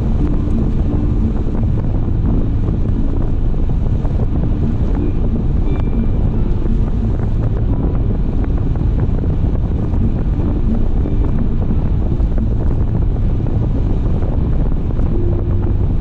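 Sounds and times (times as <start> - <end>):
car road noise: 0.0 - 16.0
wind buffeting microphone: 0.0 - 16.0.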